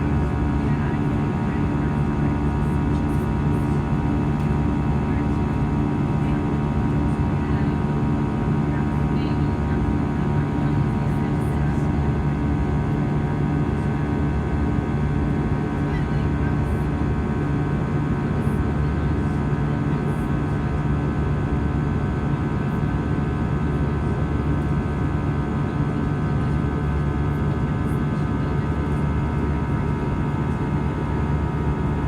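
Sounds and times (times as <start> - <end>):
airplane cabin drone: 0.0 - 21.0, 22.0 - 32.0.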